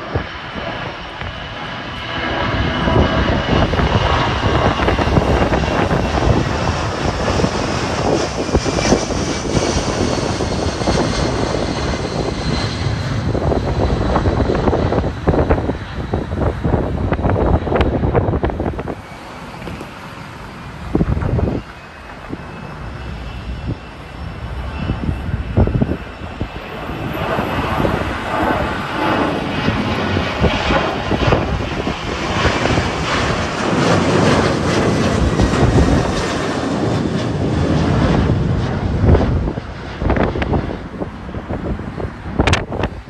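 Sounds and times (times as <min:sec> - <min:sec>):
jet airliner engines: 0:00.0 - 0:43.0
wind gusts buffeting microphone: 0:00.0 - 0:43.0.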